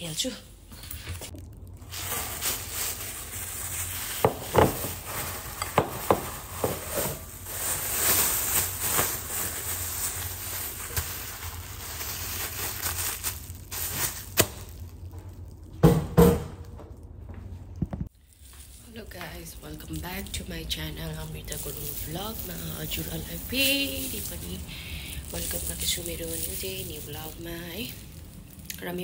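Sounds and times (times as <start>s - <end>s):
plastic bag rustling: 0.9s - 15.7s, 17.9s - 29.0s.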